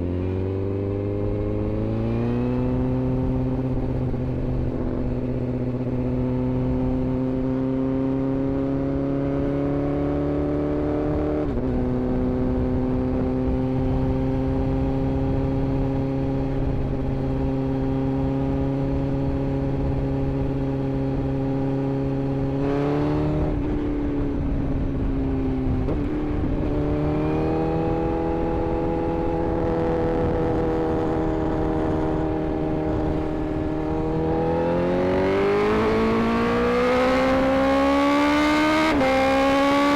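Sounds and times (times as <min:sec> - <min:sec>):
motorcycle engine running: 0:00.0 - 0:10.4, 0:11.0 - 0:39.9.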